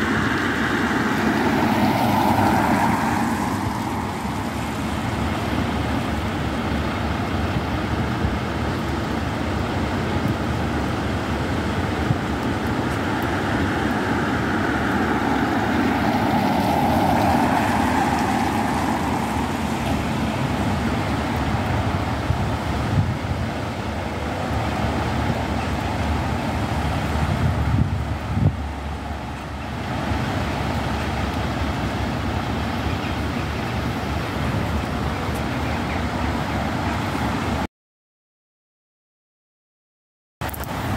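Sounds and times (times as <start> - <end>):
heavy rain: 0.0 - 37.7, 40.4 - 40.9
road traffic: 0.0 - 37.7, 40.4 - 40.9
wind rumbling on microphone: 0.0 - 37.7, 40.4 - 40.9.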